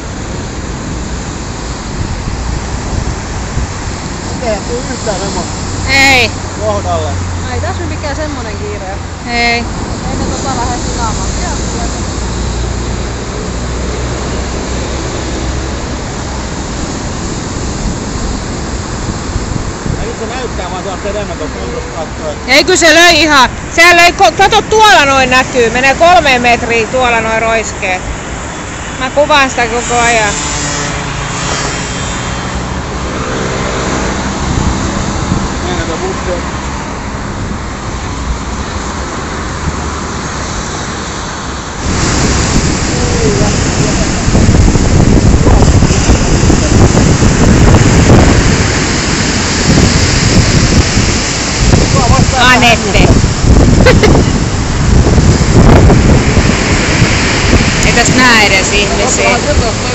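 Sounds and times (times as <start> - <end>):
breaking waves rushing: 0.0 - 59.9
deep continuous rumble: 0.0 - 59.9
road traffic: 0.0 - 59.9
sea surf on shingle: 0.0 - 59.9.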